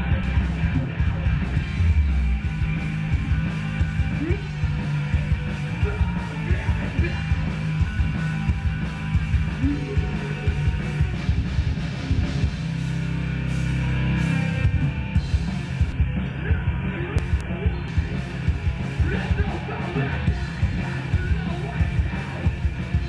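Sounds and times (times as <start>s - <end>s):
distorted guitar: 0.0s - 23.0s
fast driving drum beat: 0.0s - 23.0s
loud rock music: 0.0s - 23.0s.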